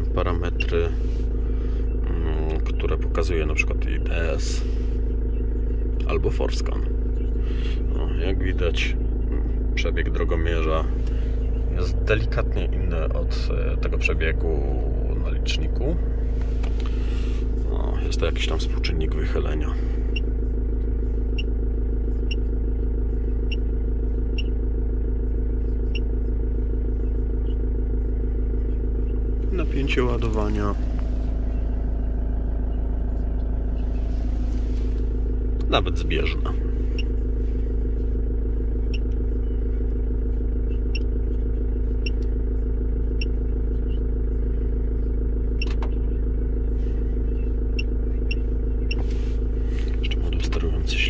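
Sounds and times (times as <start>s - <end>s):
diesel engine idling: 0.0s - 51.0s.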